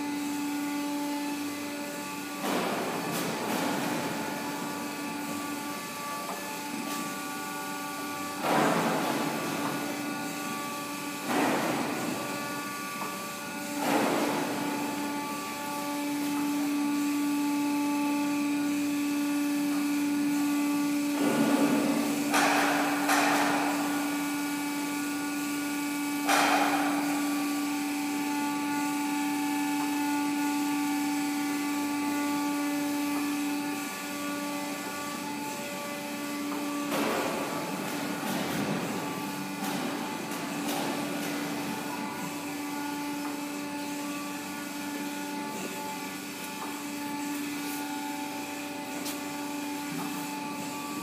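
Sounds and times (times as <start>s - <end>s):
grinder motor hum and whine: 0.0s - 51.0s.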